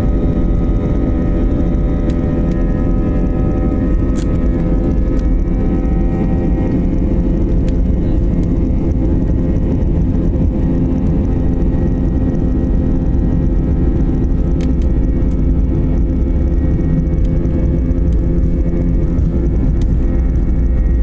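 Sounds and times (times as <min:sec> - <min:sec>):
jet engine rumble in cabin: 0:00.0 - 0:21.0
wheels rumbling on runway: 0:00.0 - 0:21.0.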